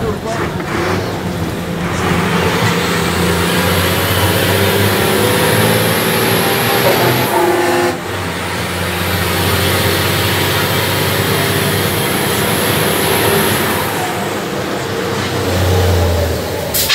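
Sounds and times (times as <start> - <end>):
bus engine humming: 0.0 - 16.9
road noise: 0.0 - 16.9.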